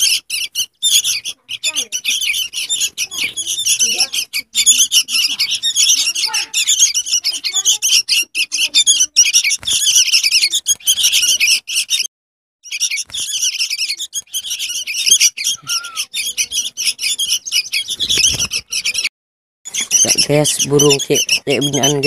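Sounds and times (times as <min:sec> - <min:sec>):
young birds chirping harshly: 0:00.0 - 0:19.1, 0:19.7 - 0:22.0.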